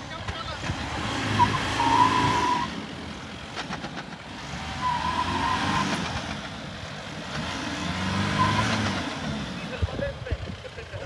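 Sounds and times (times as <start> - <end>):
diesel engine pulling under load: 0.0 - 11.0.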